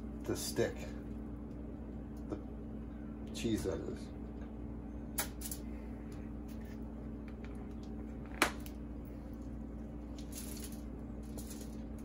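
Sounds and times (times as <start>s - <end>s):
low kitchen hum: 0.0s - 12.0s.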